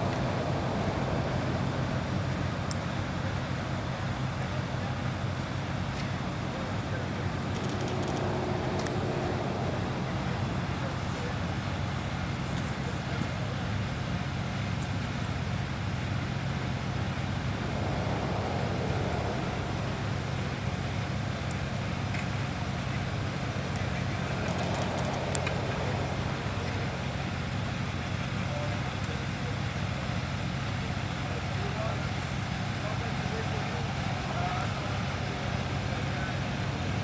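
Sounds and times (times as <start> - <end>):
diesel truck engine droning: 0.0 - 37.0
faint distant voices: 0.0 - 37.0.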